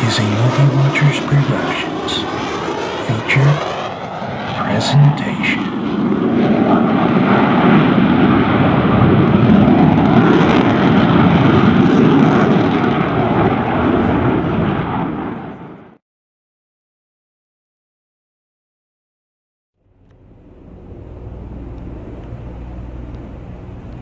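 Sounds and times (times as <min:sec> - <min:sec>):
airplane engine rushing: 0:00.0 - 0:15.9, 0:19.8 - 0:24.0.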